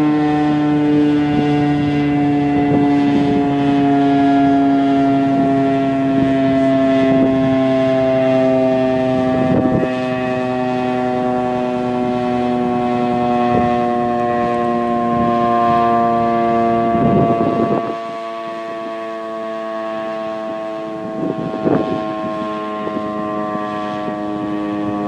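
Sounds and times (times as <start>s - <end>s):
warning siren steady tone: 0.0s - 25.0s.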